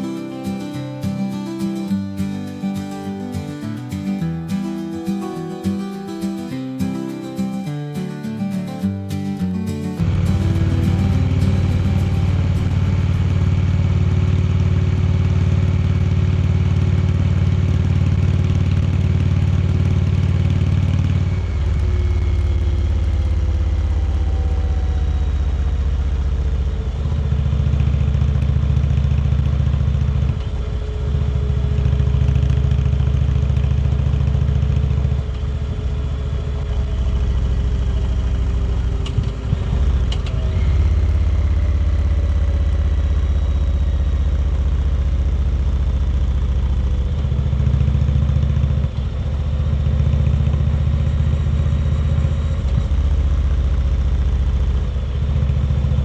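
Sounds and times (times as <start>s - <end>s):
motorcycle engine running: 10.0s - 56.0s.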